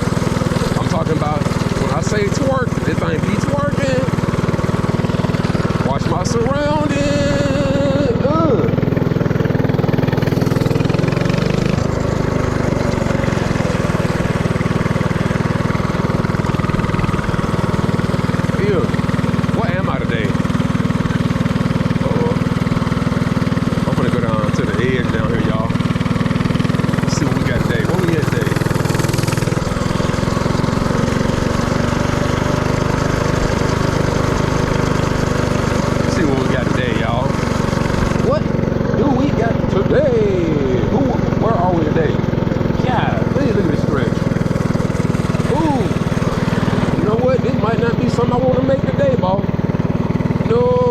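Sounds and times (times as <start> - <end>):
mini-bike engine running: 0.0 - 50.9.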